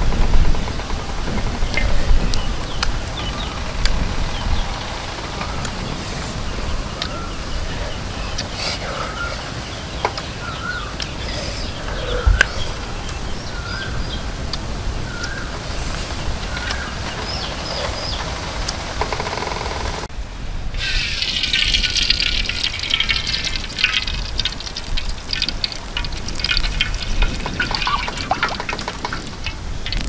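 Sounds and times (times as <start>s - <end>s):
chickens clucking: 0.0s - 20.1s, 20.8s - 30.0s
steady hiss: 0.0s - 30.0s
wood fire crackling: 0.0s - 30.0s.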